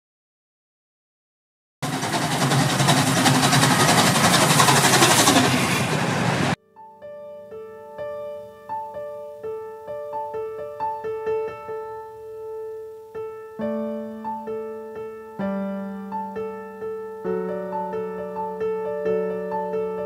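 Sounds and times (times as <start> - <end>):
piano music: 1.9 - 20.0.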